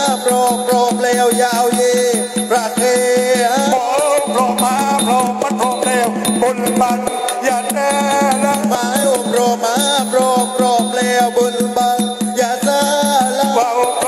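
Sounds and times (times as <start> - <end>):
fast drum and percussion strokes: 0.0 - 14.0.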